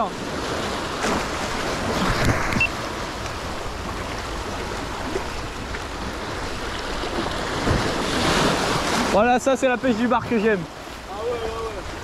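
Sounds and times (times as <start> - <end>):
sea waves splashing on rocks: 0.0 - 12.0.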